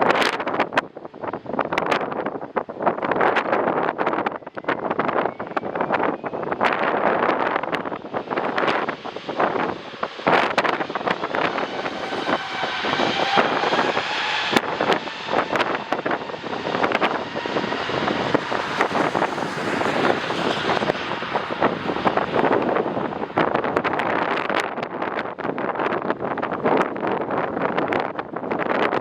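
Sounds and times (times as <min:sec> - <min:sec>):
wind buffeting microphone: 0:00.0 - 0:29.0
jet airliner engines whining: 0:00.6 - 0:28.5.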